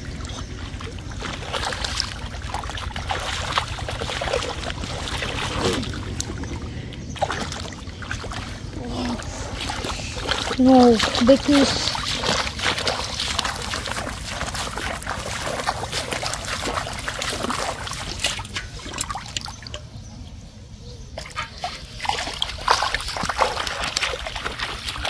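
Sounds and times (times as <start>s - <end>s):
bare feet splashing in water: 0.0s - 19.9s, 21.2s - 25.0s.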